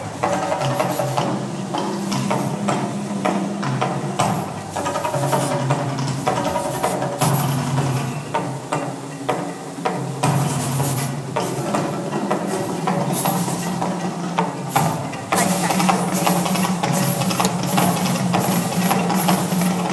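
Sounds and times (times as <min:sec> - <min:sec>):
low drone: 0:00.0 - 0:19.9.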